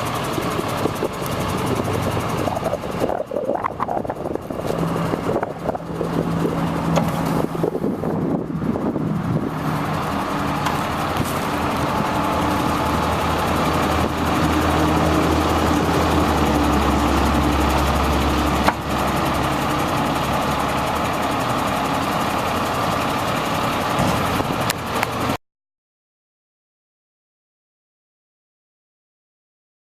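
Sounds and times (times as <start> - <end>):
truck diesel engine running: 0.0 - 25.4.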